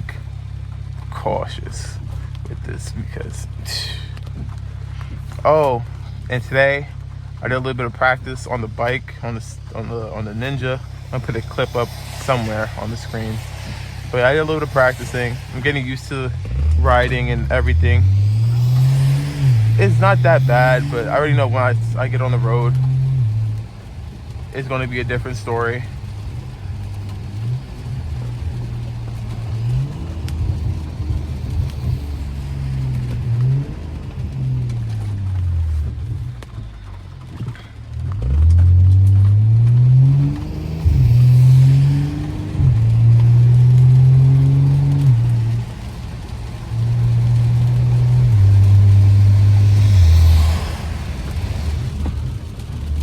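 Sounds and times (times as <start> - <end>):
car engine accelerating through gears: 0.0 - 53.0.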